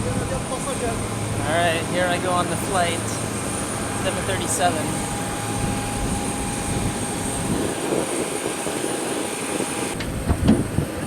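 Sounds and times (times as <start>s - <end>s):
jet turbine whine and hiss: 0.0s - 11.0s.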